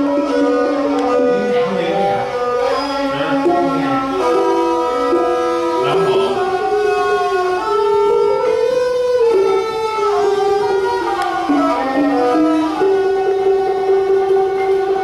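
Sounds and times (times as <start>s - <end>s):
bowed fiddles playing melody: 0.0s - 15.0s.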